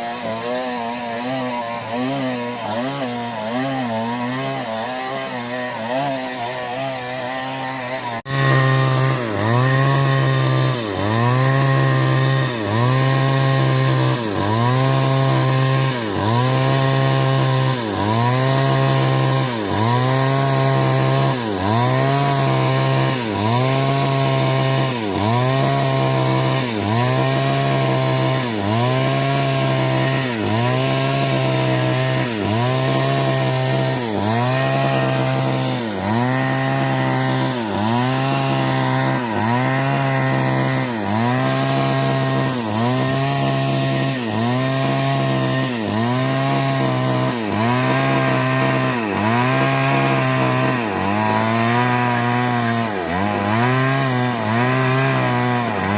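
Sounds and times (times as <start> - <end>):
chainsaw engine running: 0.0 - 55.9.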